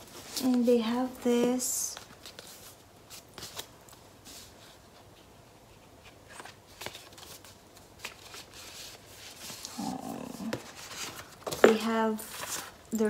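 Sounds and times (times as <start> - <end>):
paper rustling: 1.9 - 5.2, 5.8 - 13.0.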